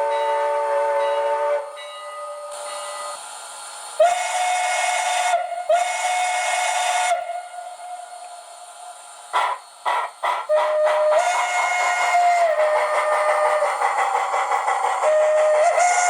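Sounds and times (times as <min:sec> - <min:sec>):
chime steam whistle: 0:00.0 - 0:03.2, 0:04.0 - 0:08.3, 0:10.4 - 0:16.0
steam hiss: 0:00.0 - 0:16.0.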